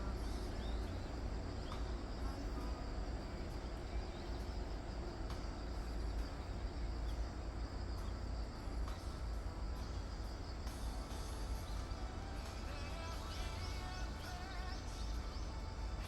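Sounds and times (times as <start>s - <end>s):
faint insect chirring: 0.0s - 16.0s.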